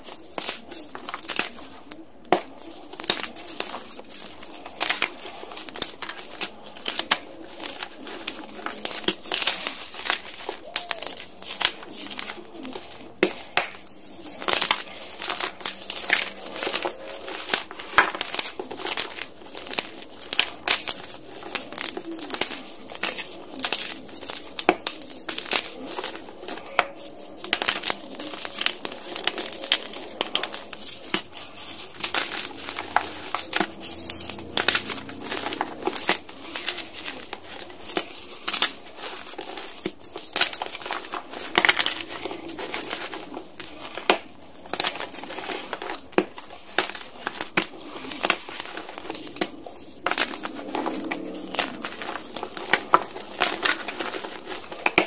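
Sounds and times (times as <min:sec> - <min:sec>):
chalk crunching by hand: 0:00.0 - 0:55.0.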